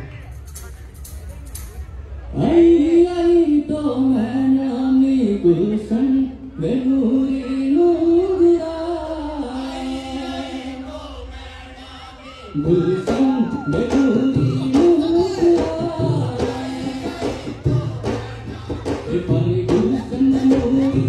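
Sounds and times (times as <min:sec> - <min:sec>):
men singing in unison: 0:02.4 - 0:21.0.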